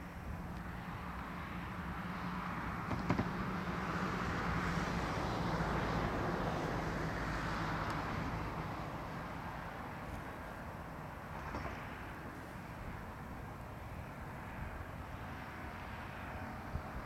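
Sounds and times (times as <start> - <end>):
vehicle passing by: 0.8 - 17.0.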